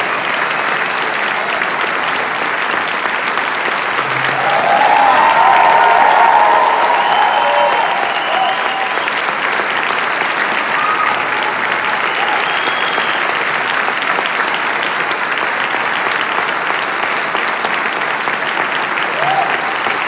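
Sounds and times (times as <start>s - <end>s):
audience applauding: 0.0s - 20.0s
voices over clapping: 0.0s - 20.0s.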